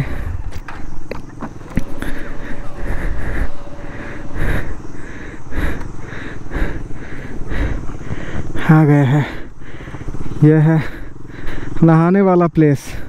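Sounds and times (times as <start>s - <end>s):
person panting heavily: 0.0s - 11.8s, 12.8s - 13.0s.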